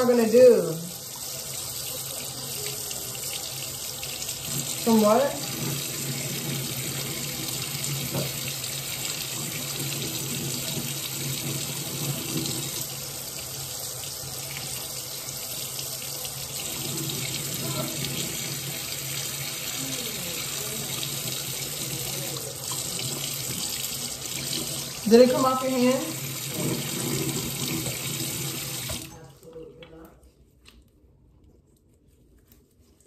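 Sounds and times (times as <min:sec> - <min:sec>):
tap water running into sink: 0:00.2 - 0:29.2.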